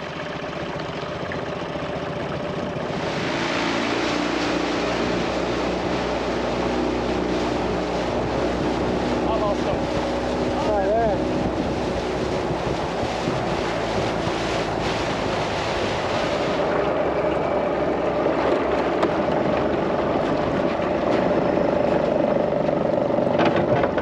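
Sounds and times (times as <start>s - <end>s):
motor drone: 0.0s - 23.9s.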